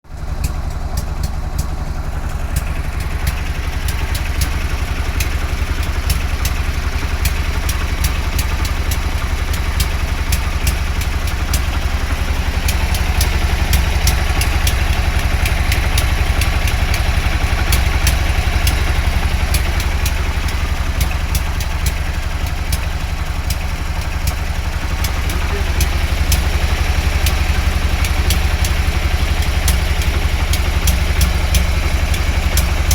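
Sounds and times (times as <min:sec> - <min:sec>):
motorcycle engine idling: 0:00.1 - 0:32.9
sharp engine ticking: 0:00.1 - 0:32.9.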